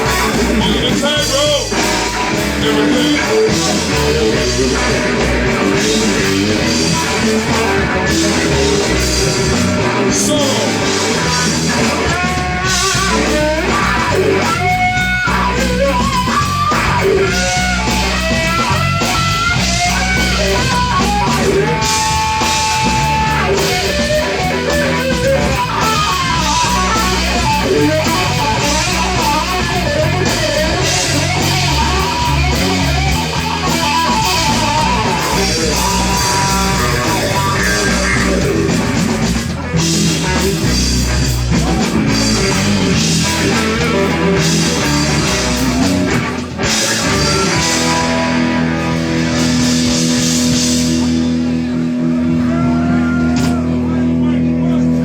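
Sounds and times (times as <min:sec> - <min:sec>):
bass guitar: 0:00.0 - 0:55.0
drums: 0:00.0 - 0:55.0
electric guitar lead: 0:00.0 - 0:55.0.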